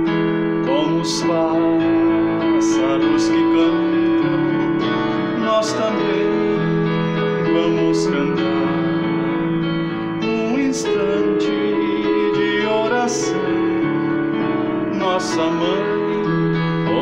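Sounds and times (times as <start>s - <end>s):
electronic keyboard hymn chords: 0.0s - 17.0s
man singing: 0.0s - 17.0s.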